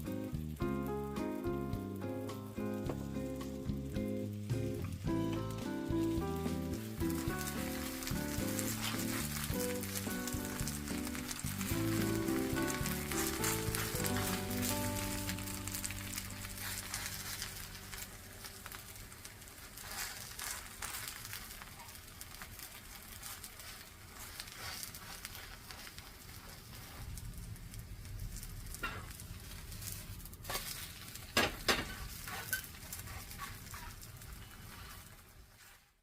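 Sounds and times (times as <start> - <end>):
pancakes sizzling in oil: 0.0 - 36.0.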